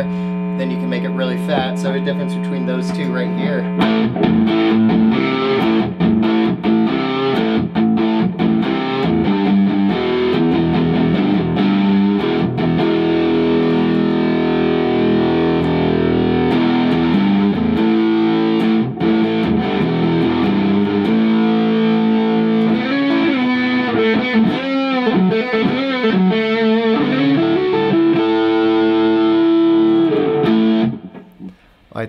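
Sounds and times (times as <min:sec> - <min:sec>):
overdriven electric guitar: 0:00.0 - 0:31.7.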